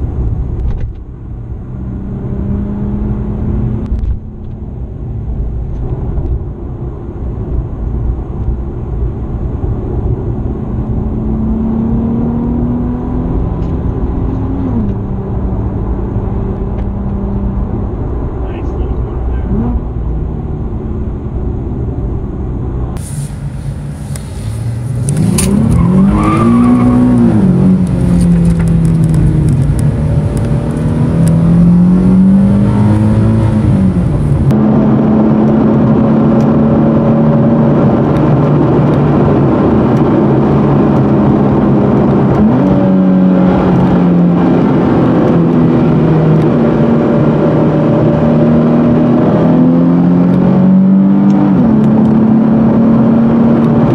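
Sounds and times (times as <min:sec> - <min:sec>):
car engine accelerating: 0:00.0 - 0:53.9
road noise: 0:00.0 - 0:53.9.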